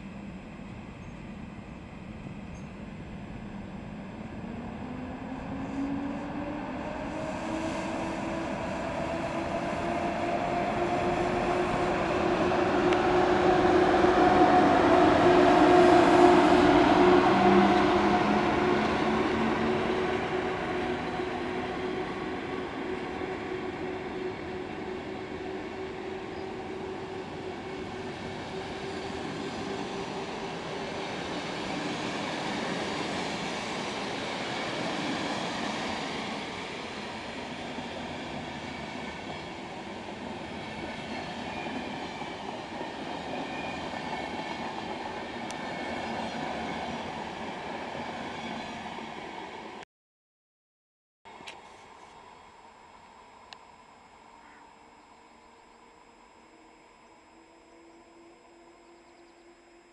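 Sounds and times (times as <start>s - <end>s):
electric locomotive motor whine: 0.0s - 49.7s, 51.3s - 59.9s.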